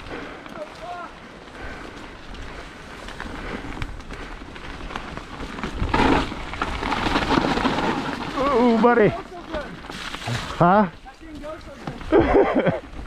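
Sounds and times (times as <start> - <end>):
bike clicks and rattles: 0.0 - 13.0
bike tyres on mud and rock: 0.0 - 13.0.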